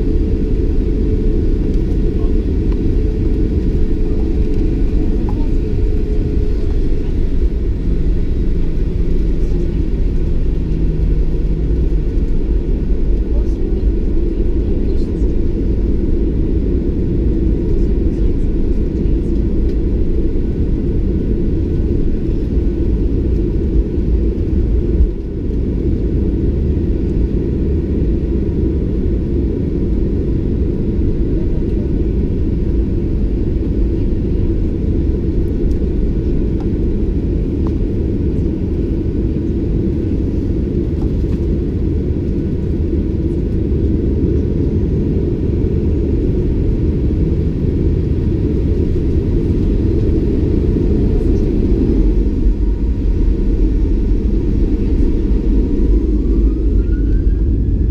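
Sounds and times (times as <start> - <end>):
airplane cabin rumble: 0.0 - 57.9.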